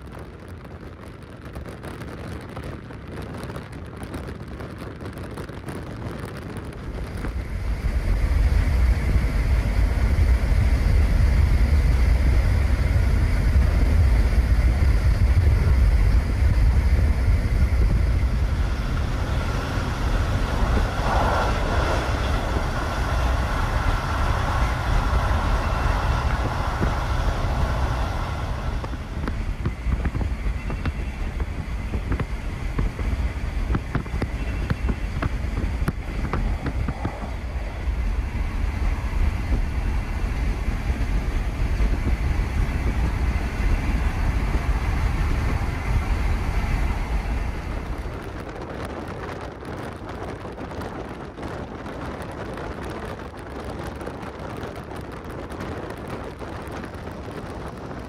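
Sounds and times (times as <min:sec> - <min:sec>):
rushing air: 0:00.0 - 0:58.0
train wheels rumbling on rails: 0:00.0 - 0:58.0.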